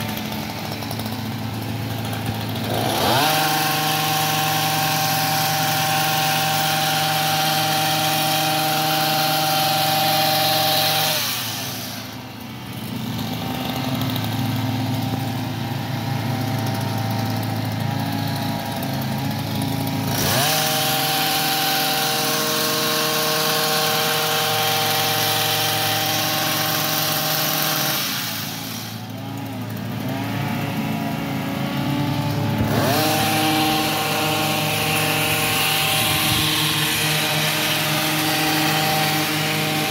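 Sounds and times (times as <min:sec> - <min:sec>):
hedge trimmer engine revving: 0:00.0 - 0:39.9.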